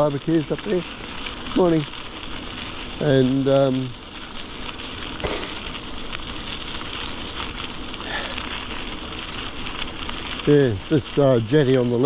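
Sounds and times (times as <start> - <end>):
bicycle tyres on wet gritty path: 0.0 - 12.0.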